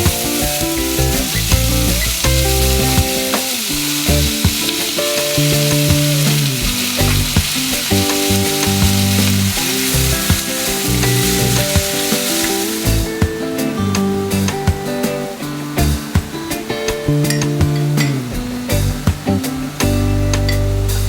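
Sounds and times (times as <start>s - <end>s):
background music: 0.0s - 21.0s
banana flower sizzling in a pan: 0.0s - 21.0s.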